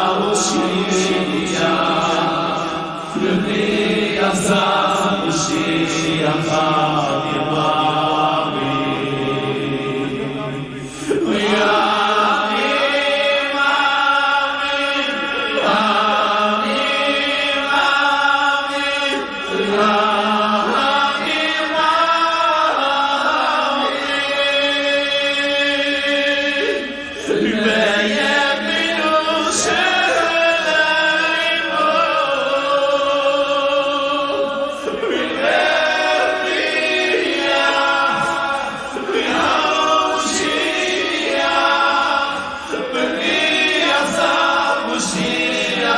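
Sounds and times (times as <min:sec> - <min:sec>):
group of voices chanting: 0:00.0 - 0:45.9.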